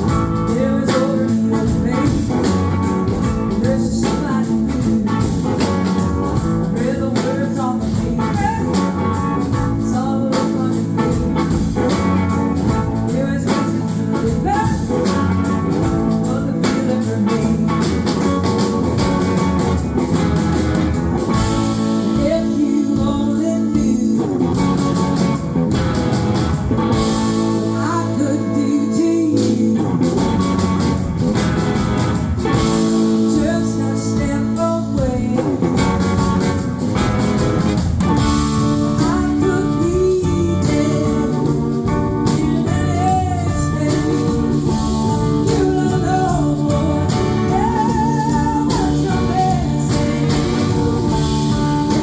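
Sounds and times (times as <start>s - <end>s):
person singing: 0.0s - 20.2s, 21.1s - 25.8s, 26.6s - 31.7s, 32.4s - 36.8s, 38.2s - 52.0s
live blues-rock band playing: 0.0s - 52.0s.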